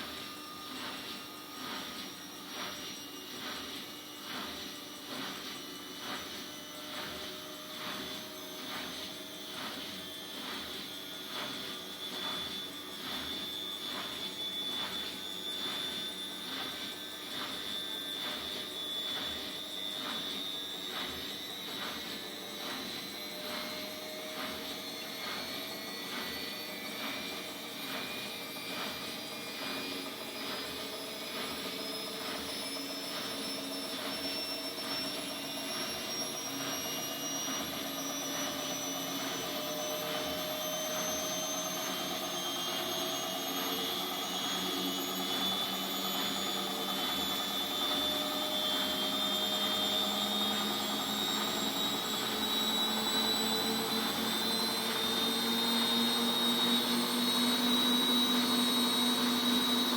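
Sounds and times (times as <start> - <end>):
washing machine motor whining: 0.0 - 59.9.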